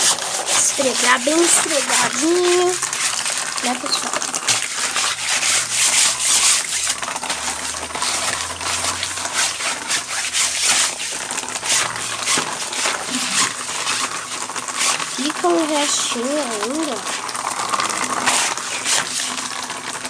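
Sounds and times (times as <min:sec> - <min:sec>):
vigorous scrubbing: 0:00.0 - 0:20.0.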